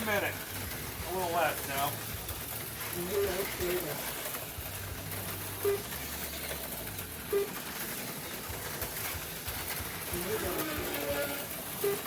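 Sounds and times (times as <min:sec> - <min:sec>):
slot car motor whir: 0:00.0 - 0:12.0.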